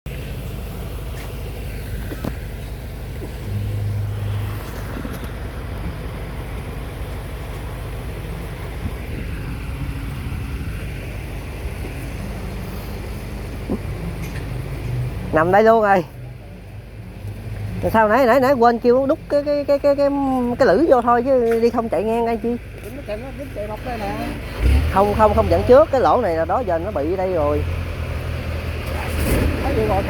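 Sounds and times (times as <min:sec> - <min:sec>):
combine harvester diesel engine: 0:00.1 - 0:30.0.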